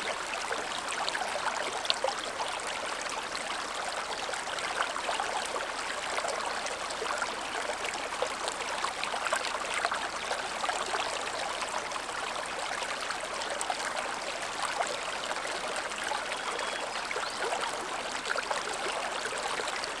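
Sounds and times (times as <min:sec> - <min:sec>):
stream babbling: 0:00.0 - 0:20.0.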